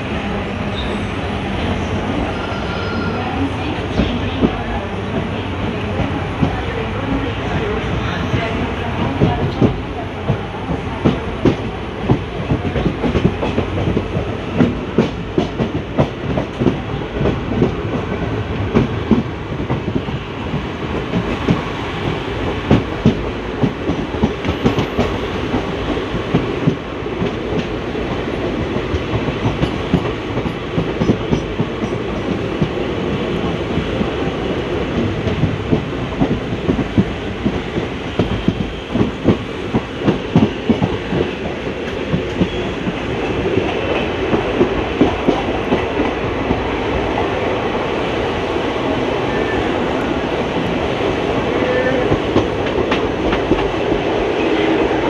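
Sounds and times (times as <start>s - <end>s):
train wheels rumbling on track: 0.0s - 55.0s
clickety-clack of rail joints: 3.6s - 55.0s.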